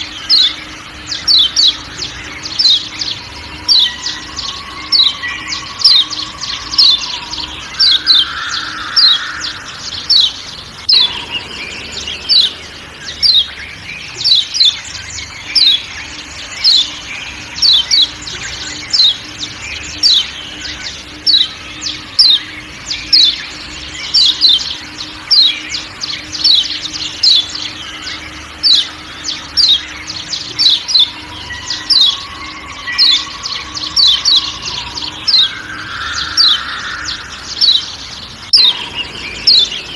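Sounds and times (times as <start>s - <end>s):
bird giving sharp calls: 0.0s - 39.9s
forest background: 0.0s - 39.9s.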